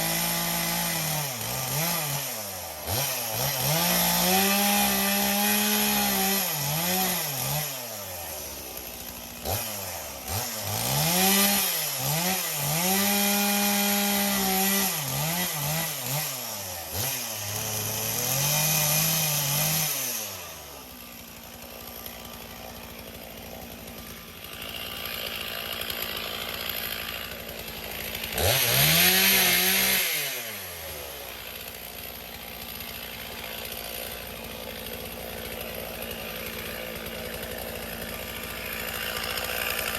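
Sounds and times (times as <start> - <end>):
chainsaw cutting and revving: 0.0 - 39.9.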